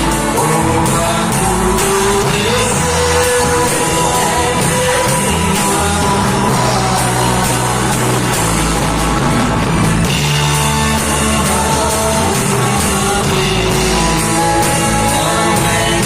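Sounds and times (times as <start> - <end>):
electric guitar chords: 0.0 - 16.0
worship band playing: 0.0 - 16.0.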